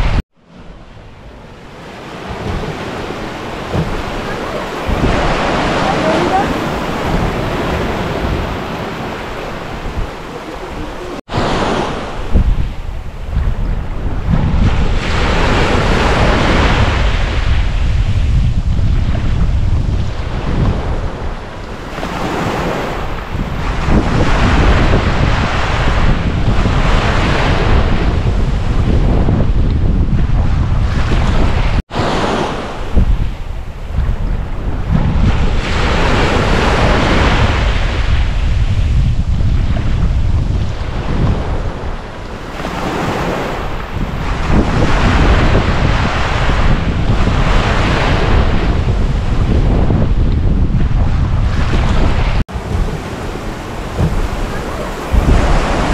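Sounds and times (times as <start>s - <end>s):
sea waves breaking: 0.0s - 55.9s
wind buffeting microphone: 0.0s - 55.9s.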